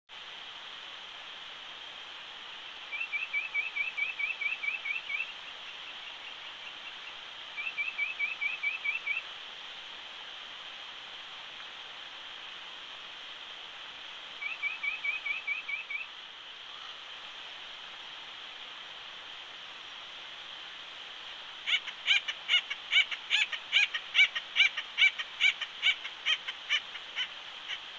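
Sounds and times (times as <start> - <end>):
steady hiss: 0.1 - 27.9.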